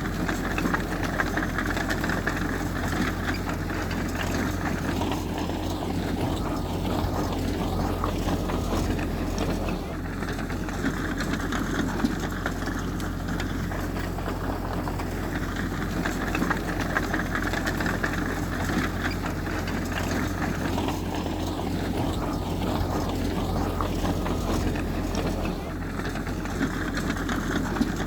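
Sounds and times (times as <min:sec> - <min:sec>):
heavy diesel engine drone: 0:00.0 - 0:28.0.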